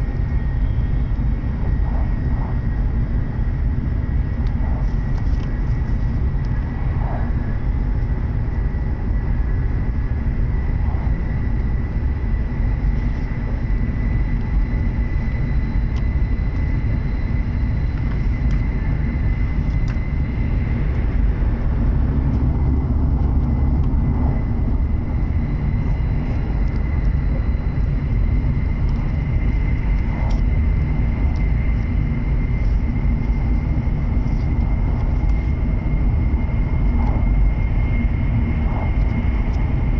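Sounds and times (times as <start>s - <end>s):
high whine: 0.0s - 39.9s
wheels rumbling on rail: 0.0s - 39.9s.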